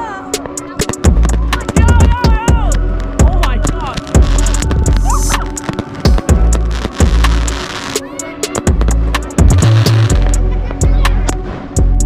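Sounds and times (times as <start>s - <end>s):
music with deep bass and drums: 0.3s - 12.0s.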